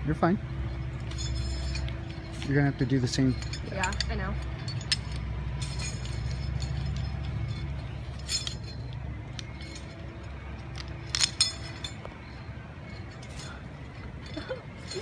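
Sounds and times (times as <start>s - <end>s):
low steady rumble: 0.0s - 15.0s
metallic clinks of carabiners: 0.5s - 15.0s.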